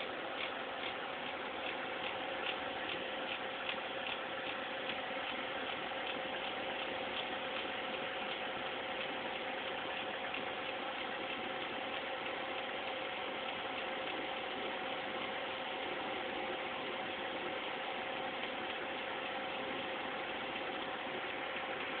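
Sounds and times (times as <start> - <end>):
computer grinding whir: 0.0 - 22.0.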